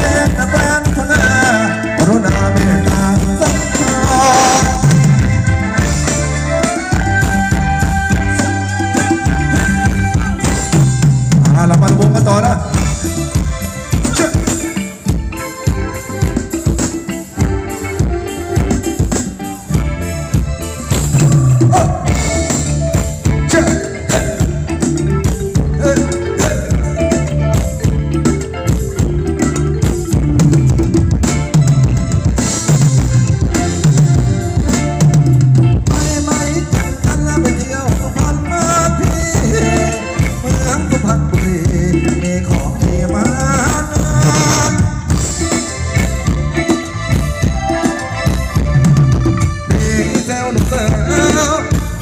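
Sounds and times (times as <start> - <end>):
drum kit beat: 0.0 - 52.0
live band playing dance music: 0.0 - 52.0.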